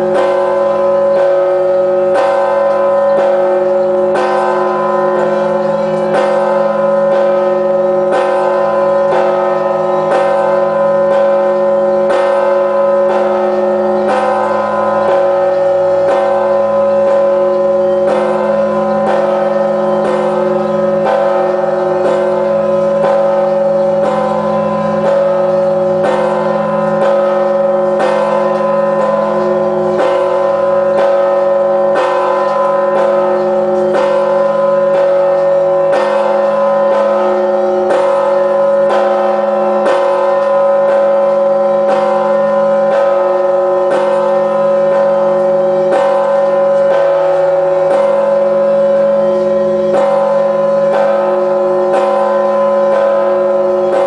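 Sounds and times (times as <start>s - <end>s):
church bell tolling: 0.0s - 54.0s.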